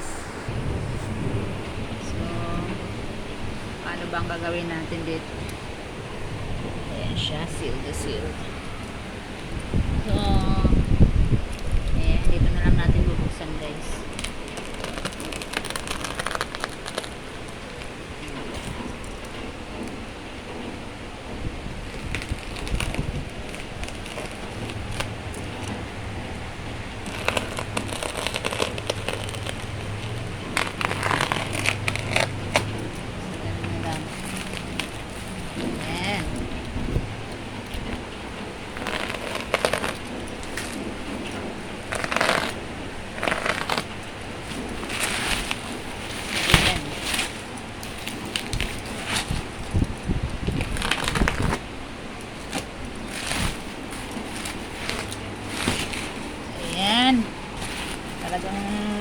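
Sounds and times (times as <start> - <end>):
cardboard and plastic crackling: 0.0 - 59.0
steady low hum: 0.0 - 59.0
plastic packaging crinkling: 7.5 - 59.0.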